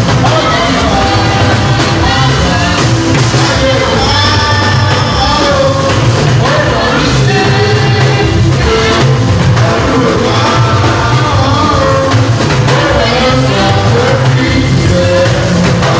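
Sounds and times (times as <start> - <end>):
drum kit: 0.0 - 15.9
person singing into microphone: 0.0 - 15.9.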